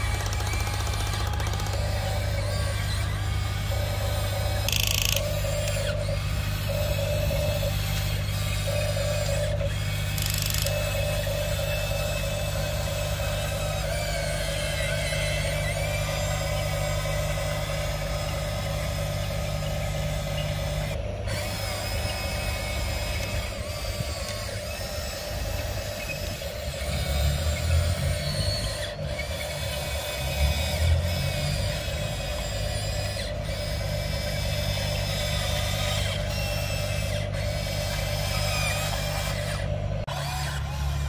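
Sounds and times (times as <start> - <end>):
toy excavator motors whining: 0.0 - 41.0.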